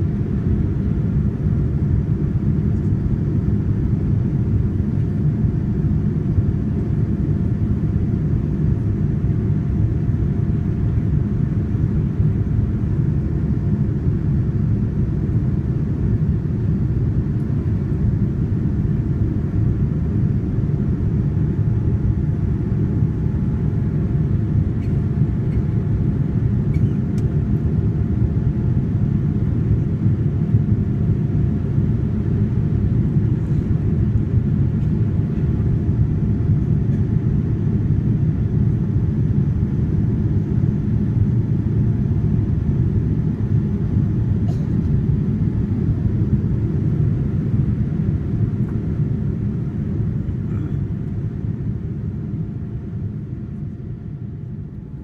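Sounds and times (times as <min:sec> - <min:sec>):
faint steady whine: 0:00.0 - 0:55.0
jet engine rumble and rushing air: 0:00.0 - 0:55.0.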